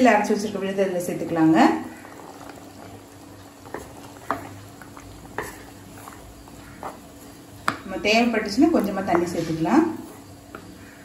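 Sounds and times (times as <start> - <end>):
faint steady hum: 0.0 - 11.0
spatula stirring paste in pot: 1.3 - 11.0.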